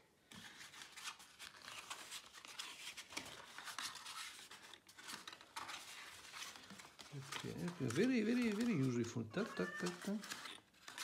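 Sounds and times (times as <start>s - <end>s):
cardboard rustling and scraping: 0.2s - 11.0s.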